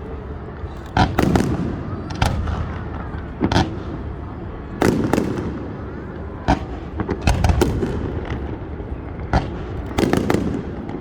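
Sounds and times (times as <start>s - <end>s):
fireworks bangs and crackling: 0.1s - 11.0s.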